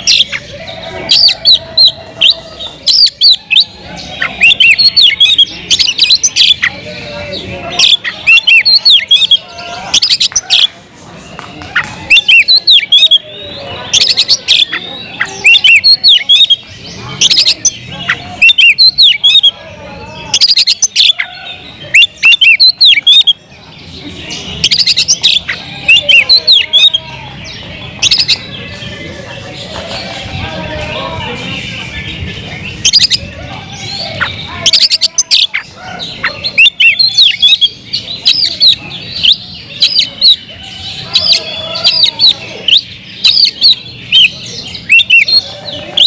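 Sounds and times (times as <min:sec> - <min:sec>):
bird singing: 0:00.0 - 0:46.0.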